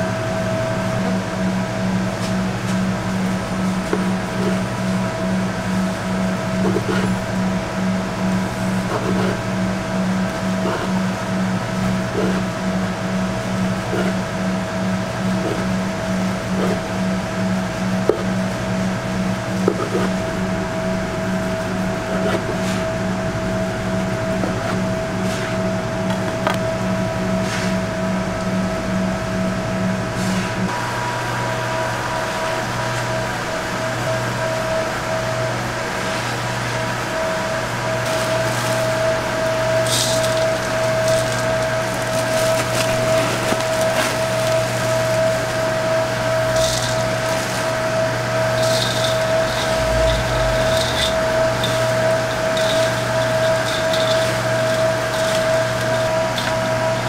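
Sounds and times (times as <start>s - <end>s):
kitchen machine hum: 0.0s - 57.0s.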